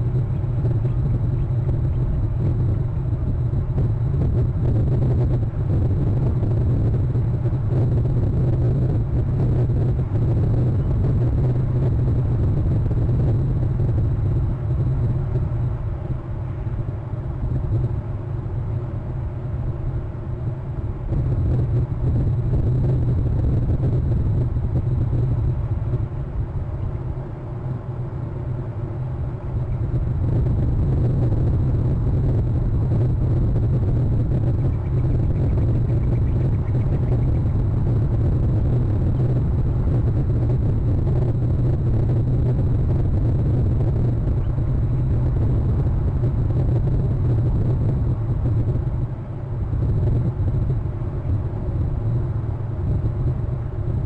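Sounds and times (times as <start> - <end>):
faint high whine: 0.0 - 54.0
low rumble: 0.0 - 54.0.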